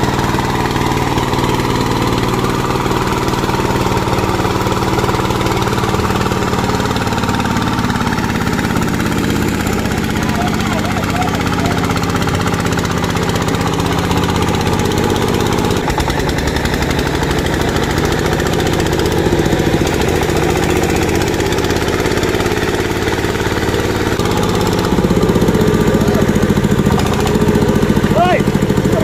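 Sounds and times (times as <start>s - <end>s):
diesel tractor engine chugging: 0.0s - 29.0s.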